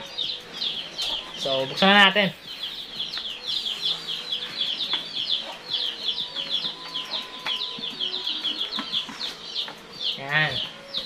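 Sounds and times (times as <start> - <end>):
bird chirping rapidly: 0.0 - 11.0.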